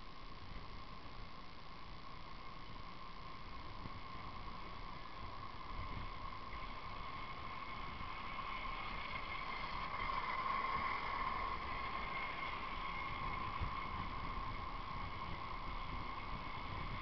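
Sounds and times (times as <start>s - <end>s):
trike wheels scraping on asphalt: 2.4s - 17.0s.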